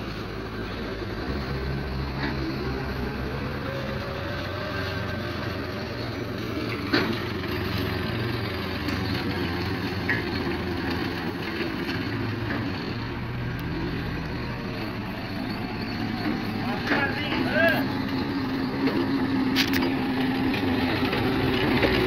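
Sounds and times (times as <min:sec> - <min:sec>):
forklift engine running: 0:00.0 - 0:22.0.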